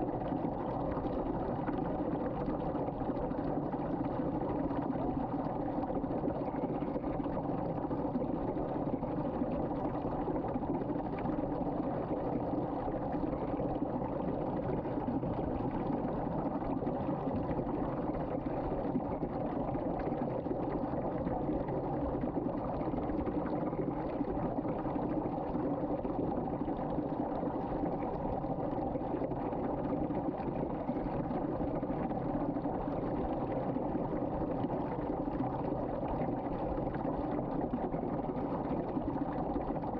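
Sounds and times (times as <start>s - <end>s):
water swirling down a drain: 0.0s - 39.9s.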